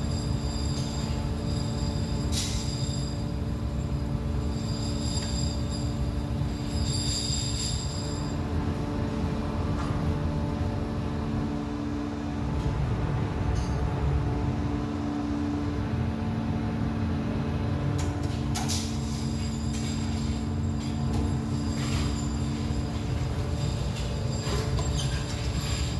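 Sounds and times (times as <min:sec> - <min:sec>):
machinery humming and rumbling: 0:00.0 - 0:25.9.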